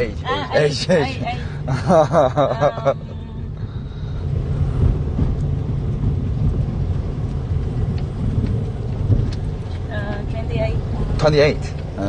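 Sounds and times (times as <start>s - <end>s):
engine and road noise in car: 0.0s - 12.0s.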